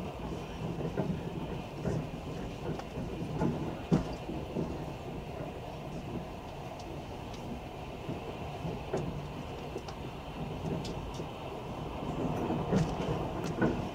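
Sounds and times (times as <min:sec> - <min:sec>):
train wheels rumbling on rails: 0:00.0 - 0:13.9
sharp clicks of rails: 0:00.3 - 0:13.9.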